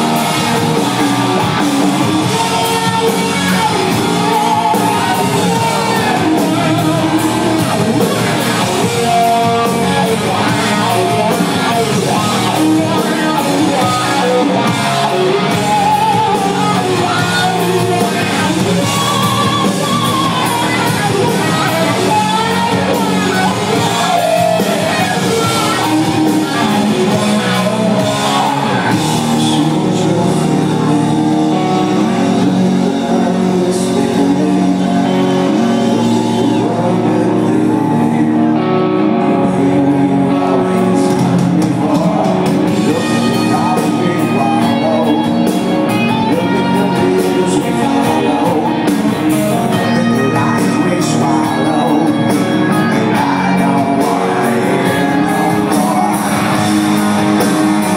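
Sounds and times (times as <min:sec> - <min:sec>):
live rock band playing: 0:00.0 - 0:57.9
person singing: 0:00.0 - 0:57.9.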